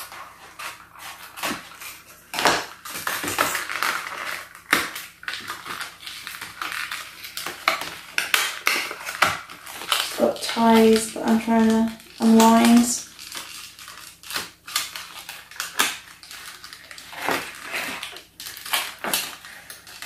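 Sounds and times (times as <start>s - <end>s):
packaging rustling and crinkling: 0.0s - 20.0s.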